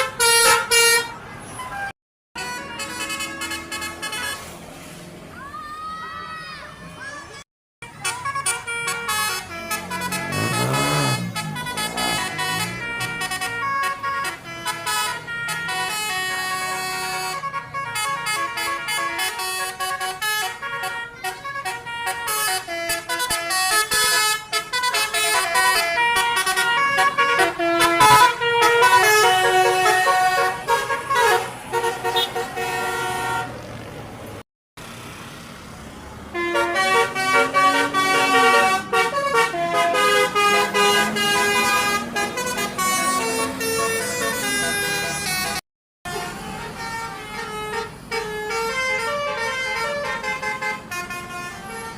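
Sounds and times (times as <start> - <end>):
musical bus horn playing a tune: 0.0 - 4.6, 7.8 - 33.6, 36.3 - 51.9.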